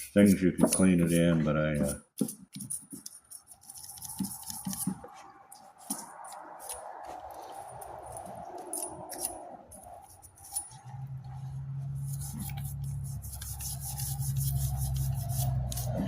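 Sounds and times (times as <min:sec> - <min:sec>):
scrubbing metal part: 0:00.0 - 0:16.0.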